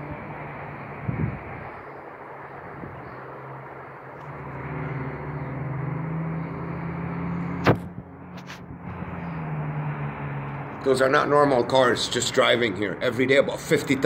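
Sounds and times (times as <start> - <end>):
car engine passing: 0.0 - 14.0.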